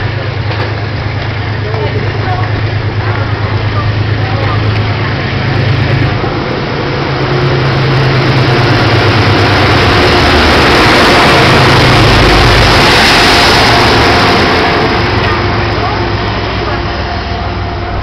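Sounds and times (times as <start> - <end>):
diesel locomotive engine: 0.0 - 18.0
train cars rumbling past: 0.0 - 18.0.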